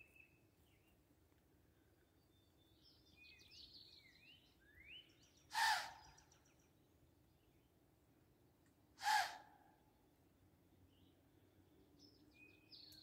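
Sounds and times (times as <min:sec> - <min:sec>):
songbird chirping: 0:00.0 - 0:08.8, 0:10.6 - 0:13.0.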